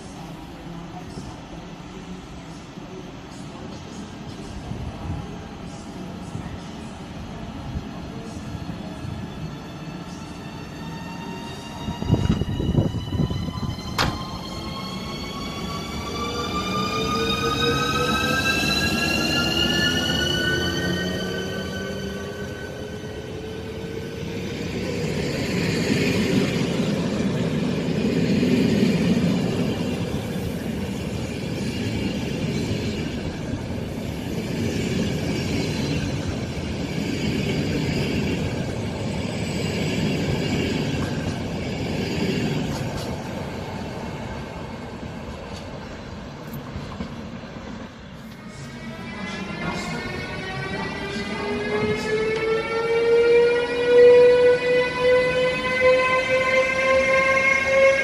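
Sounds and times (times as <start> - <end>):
electric locomotive whine: 0.0 - 58.0
train wheels on rails: 8.1 - 58.0.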